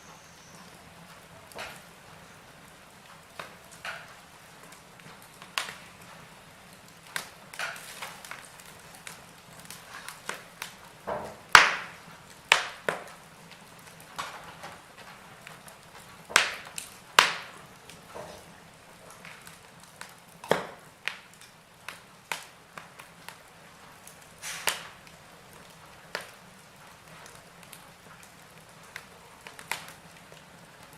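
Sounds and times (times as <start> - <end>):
logs crackling in fireplace: 0.0 - 30.9.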